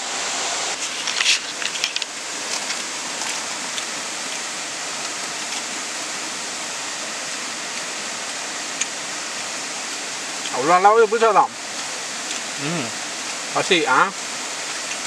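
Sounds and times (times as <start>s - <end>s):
waterfall rushing: 0.0s - 15.0s
campfire crackling: 0.7s - 15.0s.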